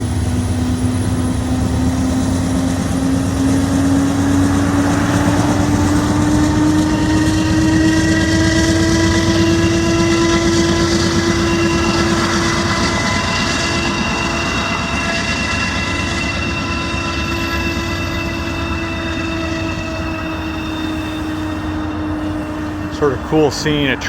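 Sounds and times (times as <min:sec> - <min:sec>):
freight train rumbling over bridge: 0:00.0 - 0:24.0
rising whine: 0:00.0 - 0:24.0.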